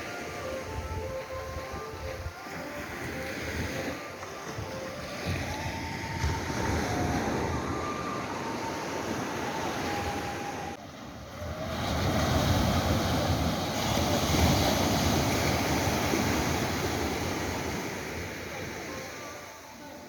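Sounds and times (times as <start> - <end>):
wind buffeting microphone: 0.0 - 19.1
surf washing on shore: 0.0 - 20.0.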